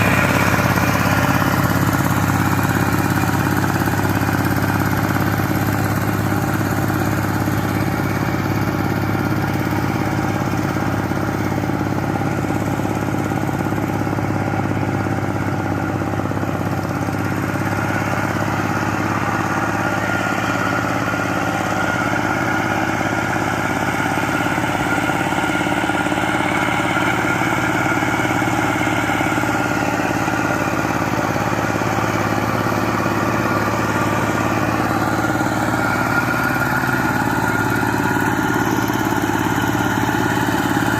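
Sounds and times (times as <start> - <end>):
power tiller engine running: 0.0 - 40.9.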